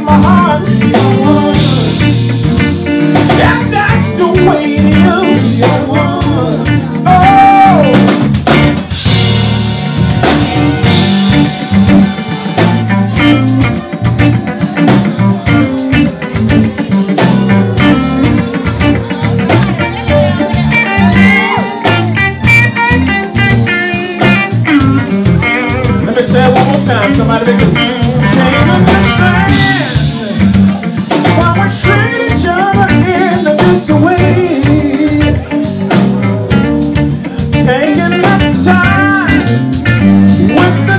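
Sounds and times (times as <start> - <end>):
person singing: 0.0 - 8.2, 9.8 - 40.9
drum kit beat: 0.0 - 40.9
electric guitars: 0.0 - 40.9.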